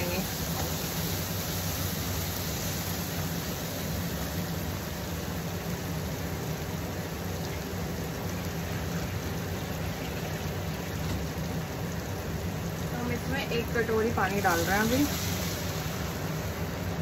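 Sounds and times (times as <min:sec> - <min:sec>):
low steady hum: 0:00.0 - 0:17.0
masala sizzling in oil: 0:00.0 - 0:17.0.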